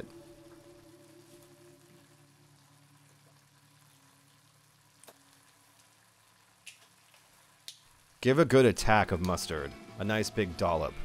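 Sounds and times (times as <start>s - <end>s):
faint sizzling in a pot: 0.0s - 11.0s.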